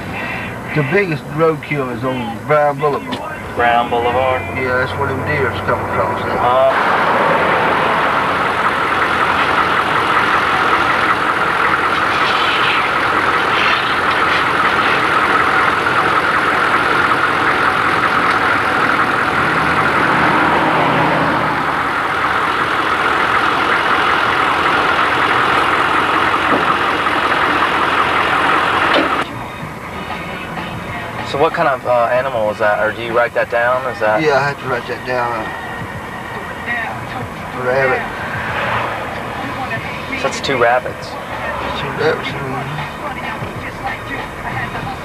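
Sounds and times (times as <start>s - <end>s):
vehicle road and engine noise: 0.0s - 45.0s.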